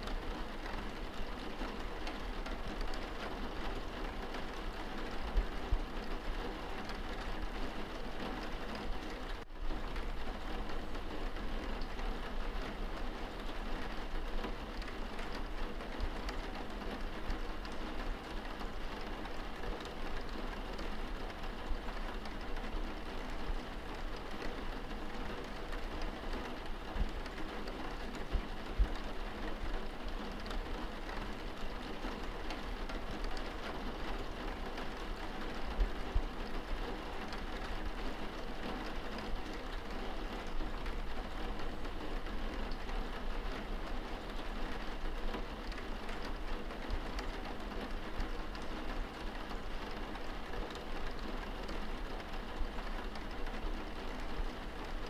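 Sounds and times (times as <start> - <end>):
rain pattering on window glass: 0.0 - 55.0.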